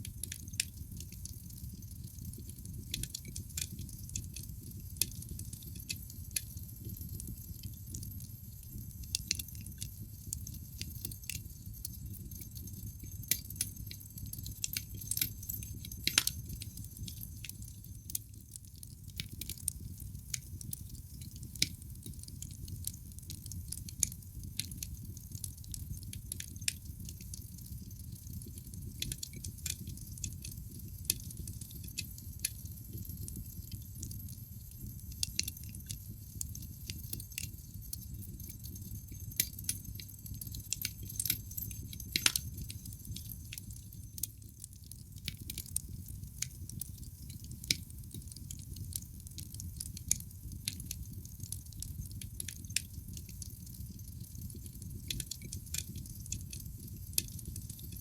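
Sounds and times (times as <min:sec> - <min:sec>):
fire crackling and popping: 0:00.0 - 0:58.0
low rumble of fire: 0:00.0 - 0:58.0.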